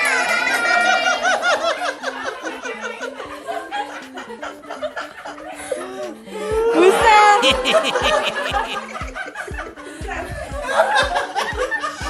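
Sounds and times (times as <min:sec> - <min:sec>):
people laughing and exclaiming: 0:00.0 - 0:12.0
soft background melody: 0:00.0 - 0:12.0.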